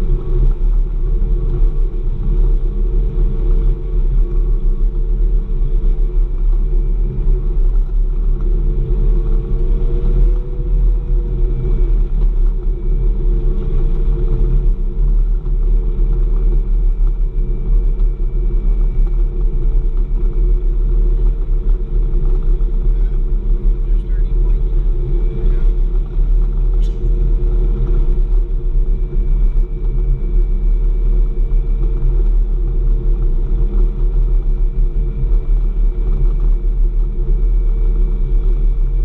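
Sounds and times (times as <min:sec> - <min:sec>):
engine drone from inside cab: 0:00.0 - 0:39.0.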